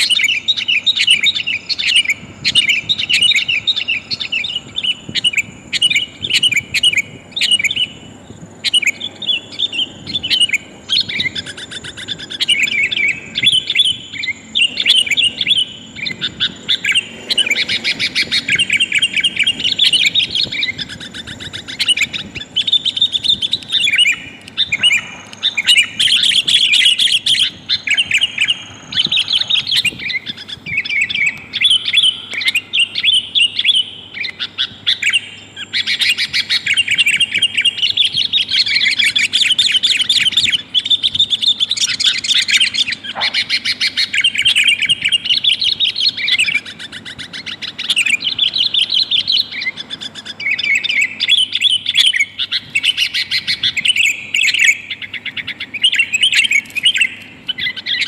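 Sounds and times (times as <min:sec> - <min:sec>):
bulbuls chattering: 0:00.0 - 0:58.0.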